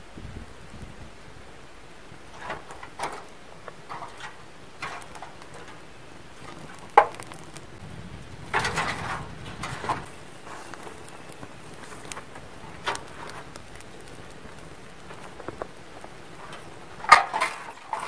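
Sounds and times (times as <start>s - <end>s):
rustling and clatter: 2.3s - 18.0s.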